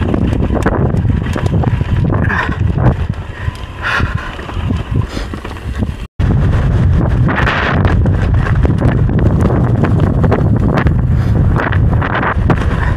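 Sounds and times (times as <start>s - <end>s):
bike rattling over rough trail: 0.0s - 12.9s
wind buffeting microphone: 0.0s - 12.9s.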